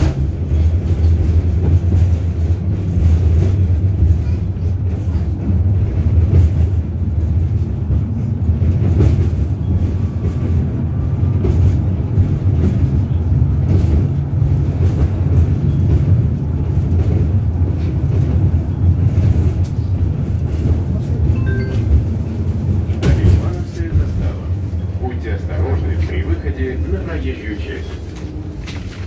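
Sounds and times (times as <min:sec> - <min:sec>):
tram rumbling on track: 0:00.0 - 0:29.0.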